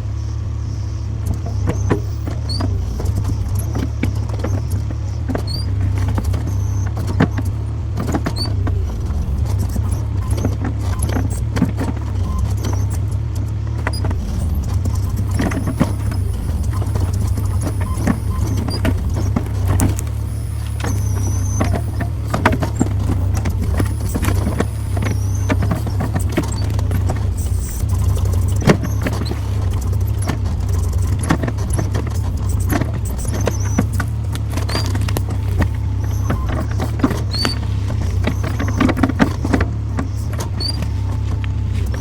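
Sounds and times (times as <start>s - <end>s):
faint high squeaks: 0.0s - 42.0s
skid steer engine running: 0.0s - 42.0s.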